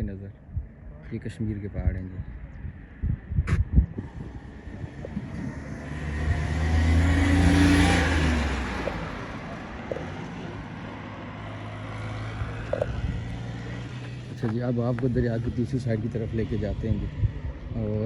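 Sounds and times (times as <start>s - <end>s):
low engine hum: 0.0s - 18.0s
vehicle passing: 2.7s - 18.0s.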